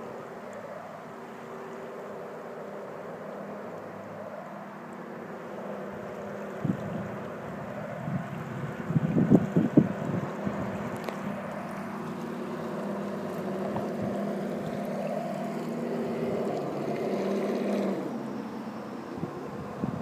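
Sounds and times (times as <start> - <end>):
model boat motor whine: 0.0 - 20.0.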